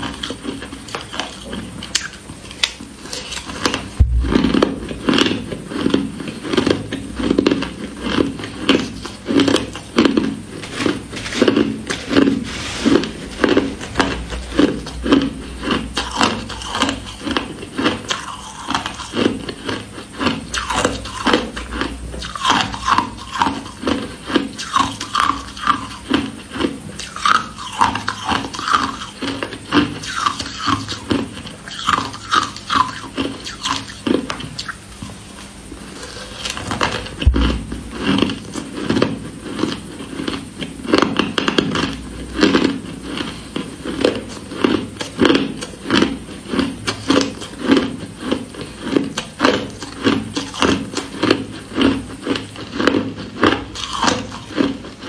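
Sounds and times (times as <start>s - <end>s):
crushed ice being chewed: 0.0s - 55.0s.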